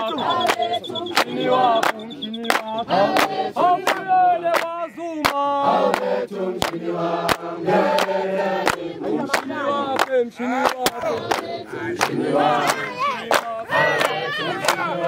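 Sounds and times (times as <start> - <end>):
voices singing in chorus: 0.0 - 15.0.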